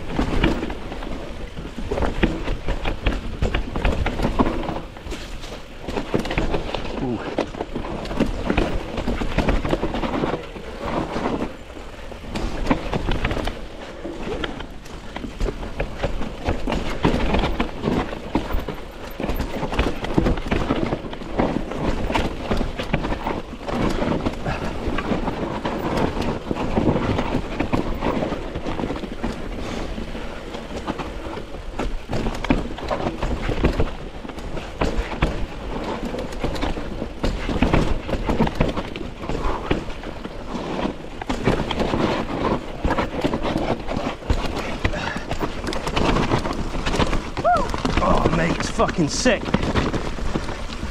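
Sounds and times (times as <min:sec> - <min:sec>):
chain and frame rattling: 0:00.0 - 0:48.7
bike tyres on dirt: 0:00.0 - 0:50.9.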